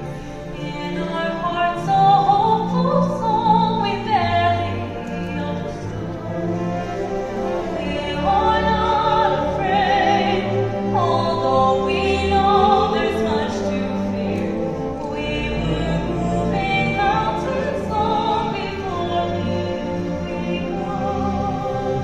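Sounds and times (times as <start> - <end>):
sustained orchestral chords: 0.0 - 22.0.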